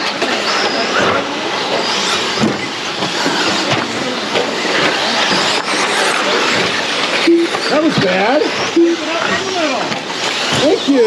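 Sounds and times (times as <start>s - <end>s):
rc car motor whine and tyre hiss: 0.0s - 11.0s.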